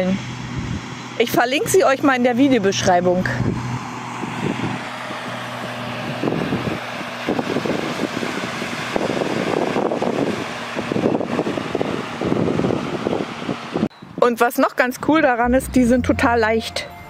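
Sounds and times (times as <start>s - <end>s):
motorboat engine droning: 0.0s - 13.9s, 15.4s - 17.0s.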